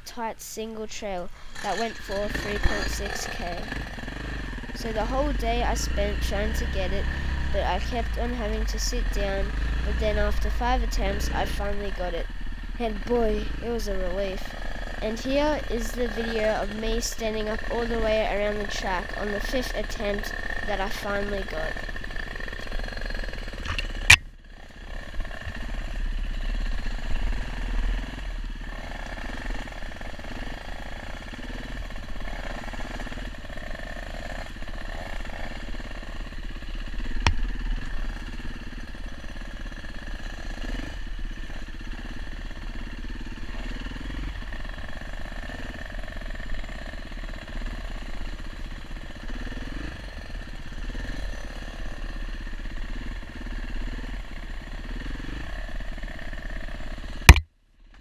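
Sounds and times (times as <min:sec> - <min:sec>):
dirt bike engine revving: 0:00.0 - 0:57.4.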